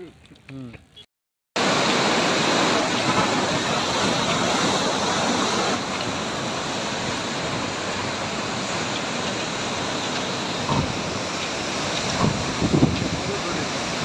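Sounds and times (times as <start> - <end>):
water rushing through sluice gates: 1.6 - 14.0.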